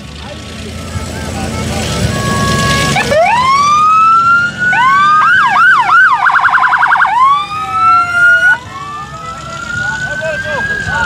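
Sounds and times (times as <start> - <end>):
electronic siren wailing and yelping: 1.6 - 11.0.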